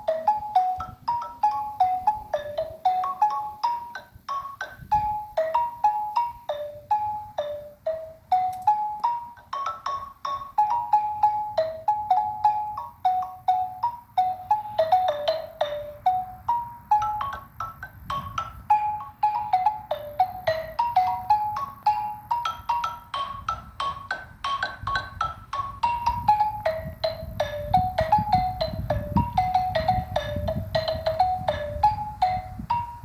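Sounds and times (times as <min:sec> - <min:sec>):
xylophone melody: 0:00.0 - 0:33.0.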